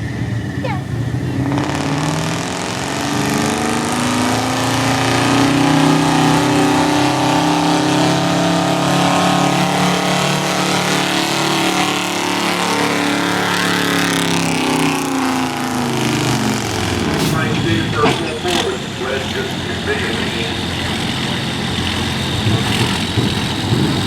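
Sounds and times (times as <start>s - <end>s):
truck engine revving under load: 0.0s - 24.0s.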